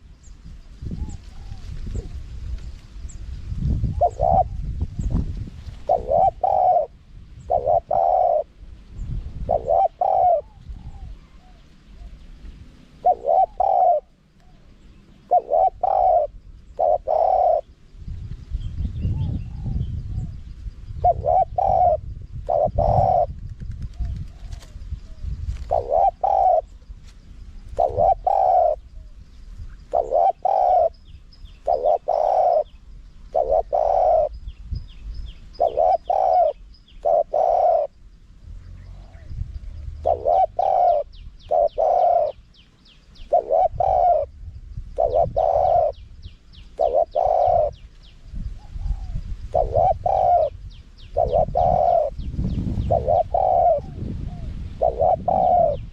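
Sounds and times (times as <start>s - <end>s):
dove cooing: 3.7s - 8.6s, 9.3s - 17.8s, 19.0s - 26.9s, 27.6s - 34.9s, 35.5s - 38.1s, 38.7s - 47.9s, 48.6s - 55.9s.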